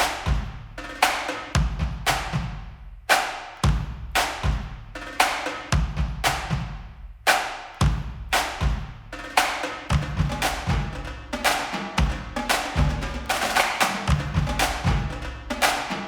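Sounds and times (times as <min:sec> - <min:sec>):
sharp drum strikes: 0:00.0 - 0:02.6, 0:03.2 - 0:16.0.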